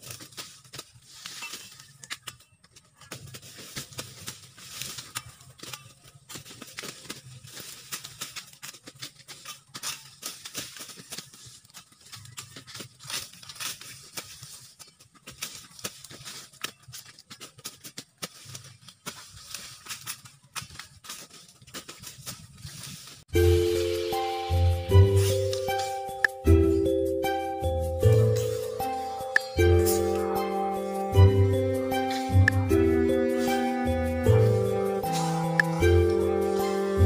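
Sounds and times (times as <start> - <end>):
dry leaves rustling and snapping: 0.0 - 26.5, 27.3 - 37.0.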